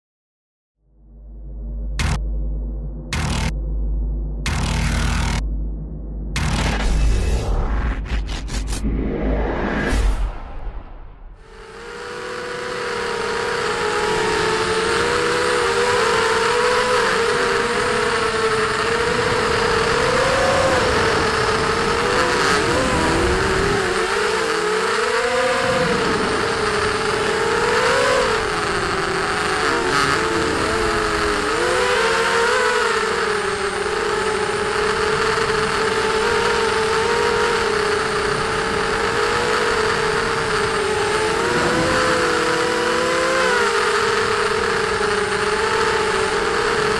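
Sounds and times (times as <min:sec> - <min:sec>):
quadcopter motors whining: 0:02.0 - 0:02.2, 0:03.1 - 0:03.5, 0:04.4 - 0:05.4, 0:06.4 - 0:08.8, 0:11.4 - 0:46.9.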